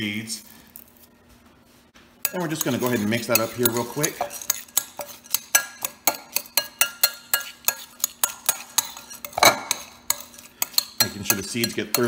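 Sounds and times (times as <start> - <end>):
spoon clinking and scraping glass: 2.2 - 12.0.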